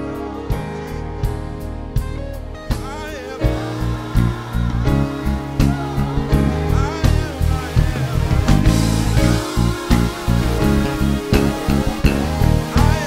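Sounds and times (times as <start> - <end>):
person singing: 0.0 - 2.0, 2.6 - 13.0
drum kit with cymbal crashes: 0.0 - 13.0
worship band music: 0.0 - 13.0.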